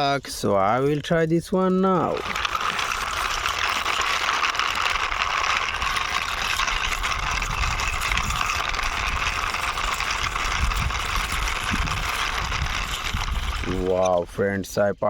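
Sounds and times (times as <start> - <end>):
toy wheels rumbling: 0.0 - 15.0.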